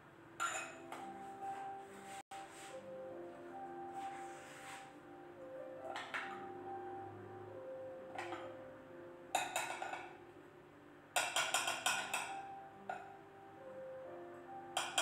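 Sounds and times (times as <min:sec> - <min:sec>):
music with held notes: 0:00.5 - 0:15.0.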